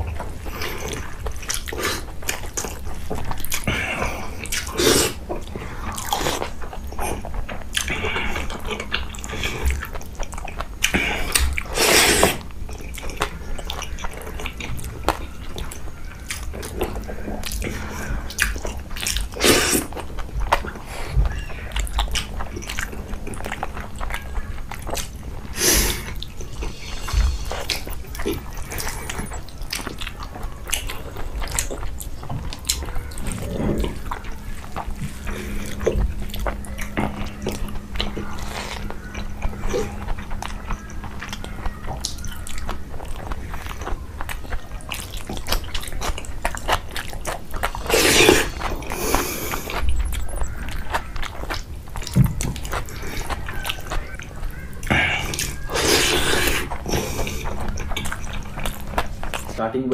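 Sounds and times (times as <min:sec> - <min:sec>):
chewing and wet mouth smacks: 0:00.0 - 0:59.6.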